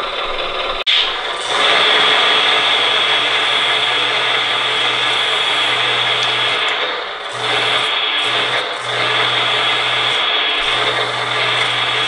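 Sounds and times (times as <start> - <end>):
electric hydraulic pump whining: 0.0 - 12.0.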